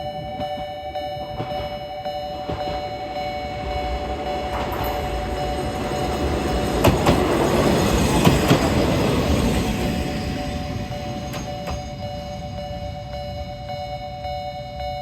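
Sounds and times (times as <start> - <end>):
level-crossing alarm: 0.0 - 15.0
diesel railcar rumble: 0.2 - 14.6
wheels clacking over rail joints: 0.5 - 12.6.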